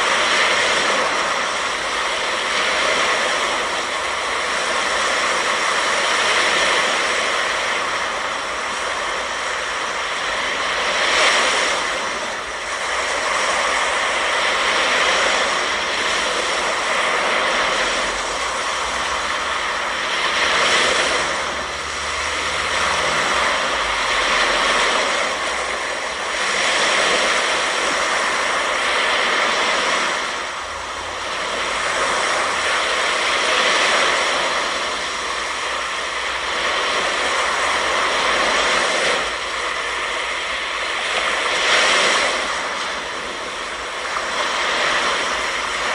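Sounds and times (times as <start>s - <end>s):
ocean surf washing onto beach: 0.0s - 45.9s.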